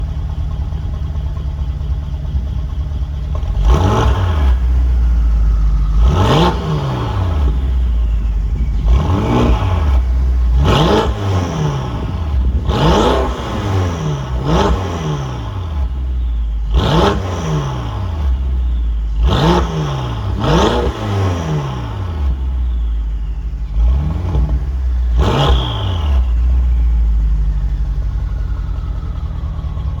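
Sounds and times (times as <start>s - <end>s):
car engine revving from idle: 0.0s - 30.0s
faint turbo whistle: 0.0s - 30.0s.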